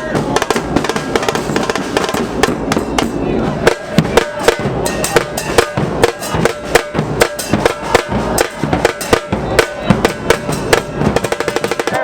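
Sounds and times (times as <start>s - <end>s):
deep drum: 0.0s - 12.0s
drums beating quick rhythm: 0.0s - 12.0s.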